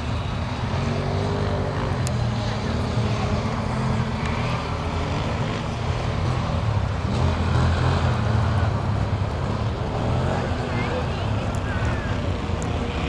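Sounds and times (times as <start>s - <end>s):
distant quad bike engine: 0.0s - 13.0s.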